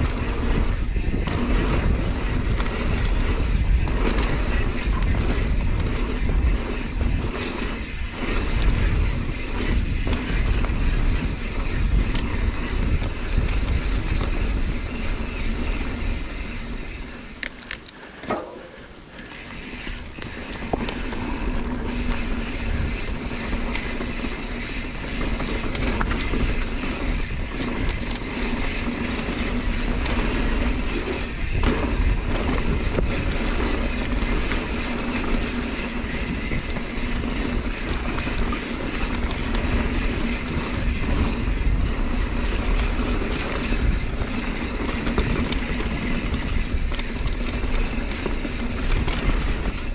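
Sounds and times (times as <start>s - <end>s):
wind on microphone: 0.0s - 17.4s, 19.6s - 49.9s
bike tyre noise on dirt: 0.0s - 49.9s.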